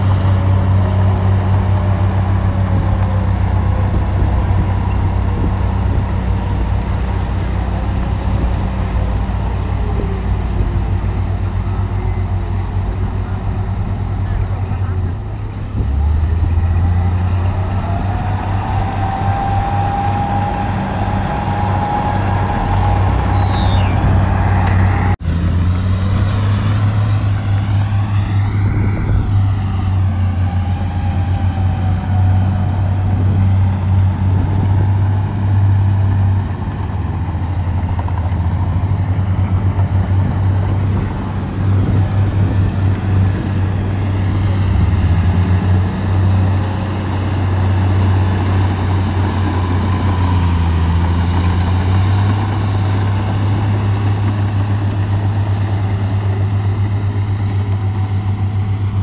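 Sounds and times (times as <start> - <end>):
heavy diesel engine droning: 0.0 - 59.0.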